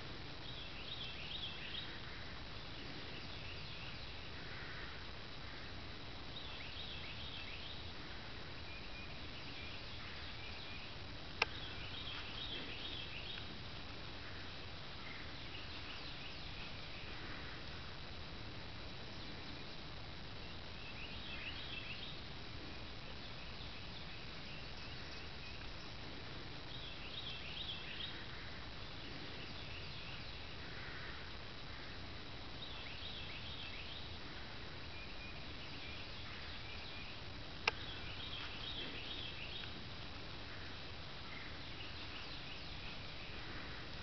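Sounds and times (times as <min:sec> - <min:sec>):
birds chirping: 0:00.0 - 0:44.0
steady background hiss: 0:00.0 - 0:44.0.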